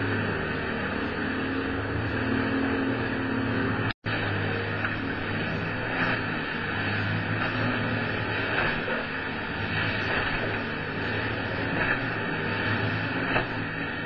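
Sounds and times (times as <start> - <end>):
outboard motors running: 0.0 - 14.0
rough water splashing against hull: 0.0 - 14.0.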